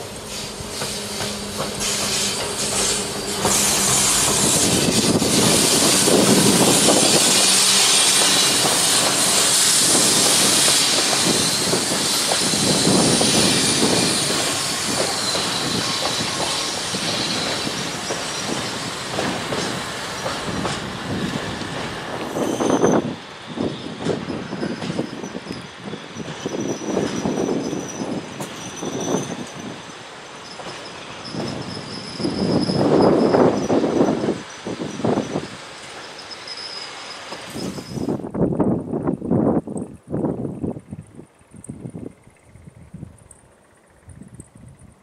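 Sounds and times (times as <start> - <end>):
train wheels hissing: 0.0 - 38.4
electric locomotive hum: 0.0 - 45.0.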